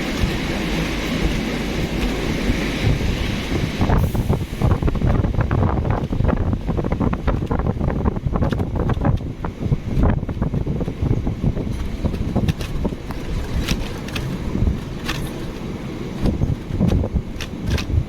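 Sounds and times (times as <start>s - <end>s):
diesel train rumbling past: 0.0s - 18.0s
wind buffeting microphone: 0.0s - 18.0s.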